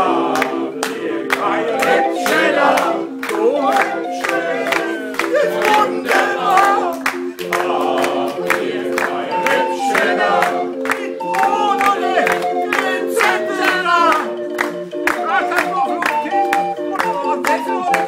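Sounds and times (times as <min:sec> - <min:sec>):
barrel organ playing chords: 0:00.0 - 0:18.0
voices singing: 0:00.0 - 0:18.0.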